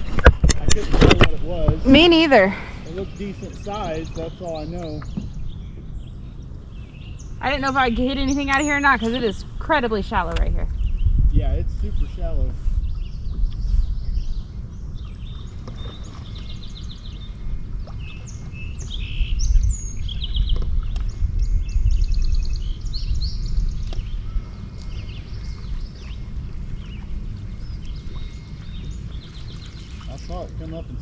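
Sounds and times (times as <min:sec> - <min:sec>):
low rumble: 0:00.0 - 0:31.0
birds chirping and trilling: 0:00.8 - 0:31.0.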